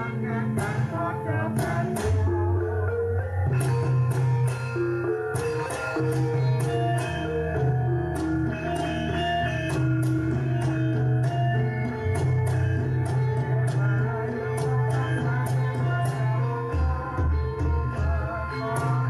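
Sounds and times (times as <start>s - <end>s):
steady percussive beat: 0.0s - 19.0s.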